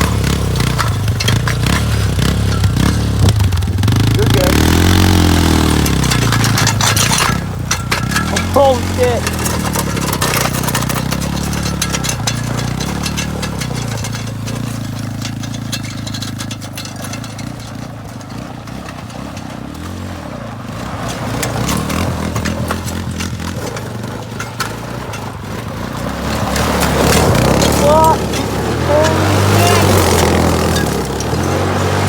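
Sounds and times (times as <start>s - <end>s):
rattling clicks: 0.0s - 20.0s, 20.8s - 32.0s
quad engine revving: 0.0s - 32.0s.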